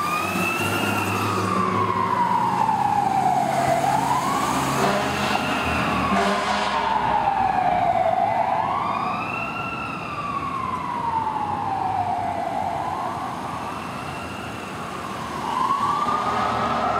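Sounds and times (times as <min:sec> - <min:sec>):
siren wailing: 0:00.0 - 0:16.9
traffic noise: 0:00.0 - 0:16.9.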